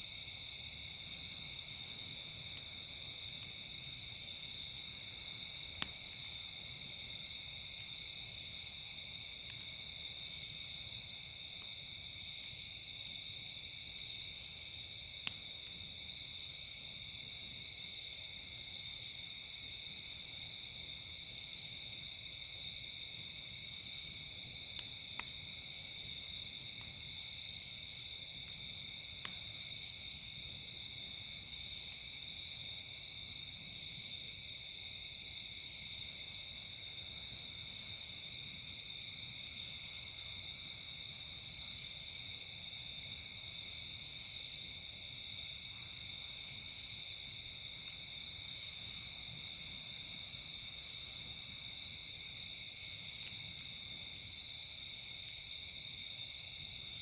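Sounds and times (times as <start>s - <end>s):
campfire crackles: 0.0s - 57.0s
crickets and insects chirping: 0.0s - 57.0s.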